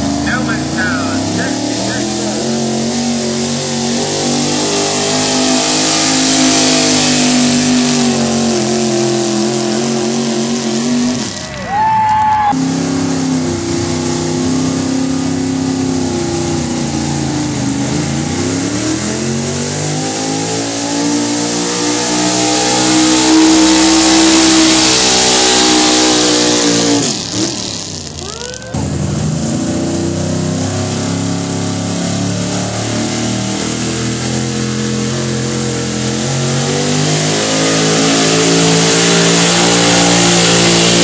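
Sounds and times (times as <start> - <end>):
truck engine at full throttle: 0.0 - 11.9, 12.5 - 41.0.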